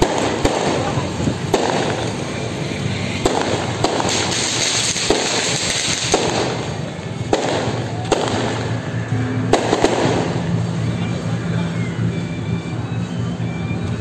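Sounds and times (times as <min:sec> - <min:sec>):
loud firecracker bangs: 0:00.0 - 0:11.7
firecrackers crackling: 0:00.0 - 0:14.0.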